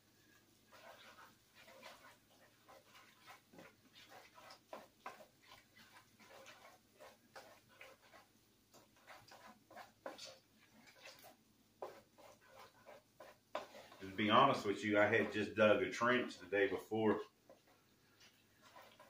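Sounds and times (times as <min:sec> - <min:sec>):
spoon stirring and scraping pot: 0:00.0 - 0:19.0.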